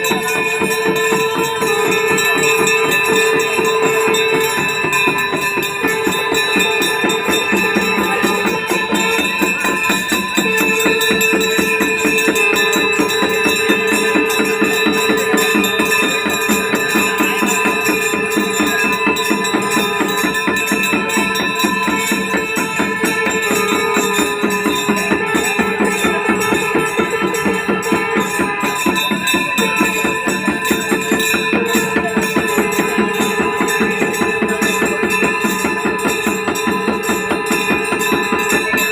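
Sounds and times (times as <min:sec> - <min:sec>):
jingling hand percussion: 0:00.0 - 0:38.9
steady ringing tones: 0:00.0 - 0:38.9.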